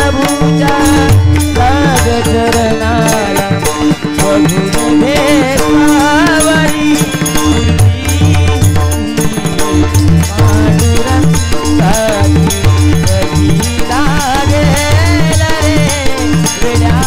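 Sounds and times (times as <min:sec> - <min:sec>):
hand drum: 0:00.0 - 0:17.0
harmonium drone: 0:00.0 - 0:17.0
ornamented sung melody: 0:00.0 - 0:17.0.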